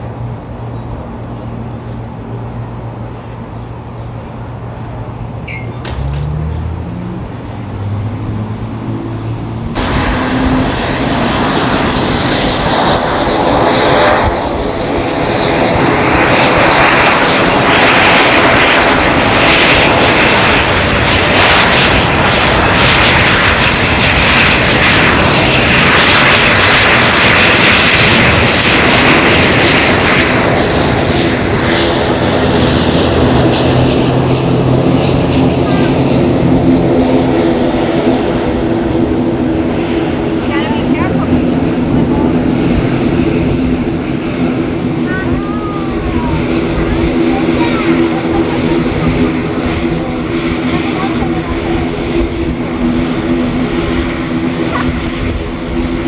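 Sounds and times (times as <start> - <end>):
airplane engines roaring: 0.0 - 56.0.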